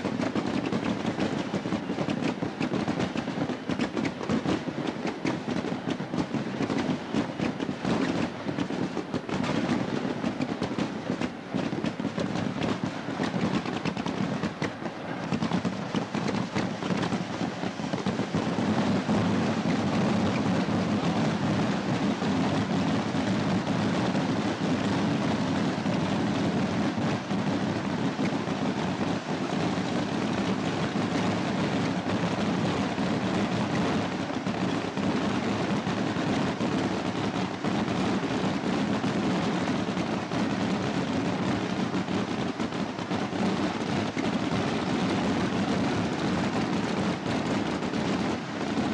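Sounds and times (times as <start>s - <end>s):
rockets cracking and banging: 0.0s - 48.9s.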